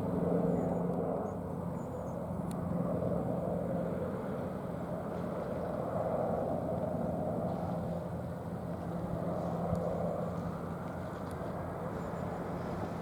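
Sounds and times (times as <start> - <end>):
constant low hum: 0.0 - 13.0
distant jet engines droning: 0.0 - 13.0.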